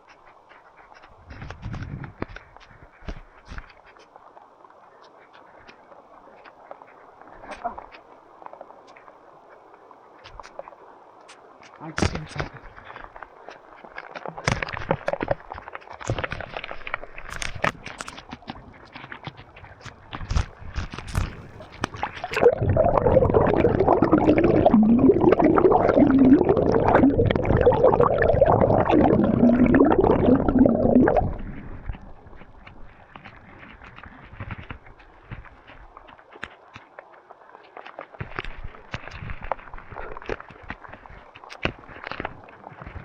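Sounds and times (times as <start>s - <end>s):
water gurgling: 0.0s - 43.0s
water splashes: 0.0s - 43.0s.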